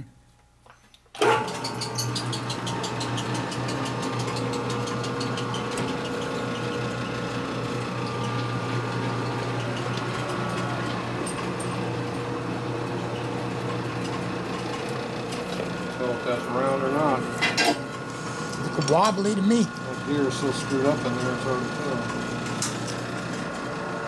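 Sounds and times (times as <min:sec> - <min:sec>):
metal lathe motor hum: 0:01.2 - 0:24.0.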